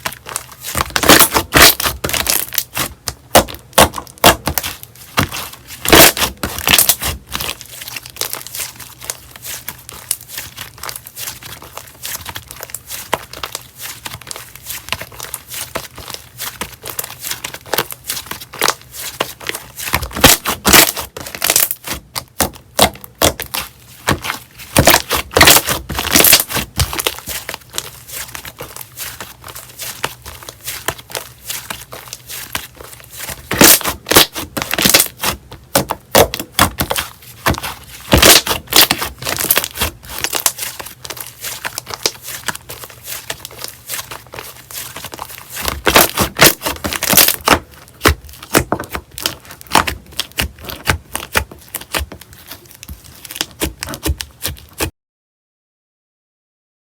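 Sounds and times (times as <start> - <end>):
slime squishing with crackles and pops: 0.0 - 54.9.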